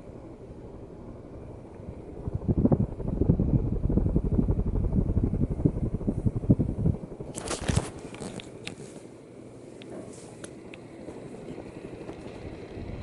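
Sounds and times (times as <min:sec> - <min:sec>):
ceiling fan fluttering rumble: 0:00.0 - 0:13.0.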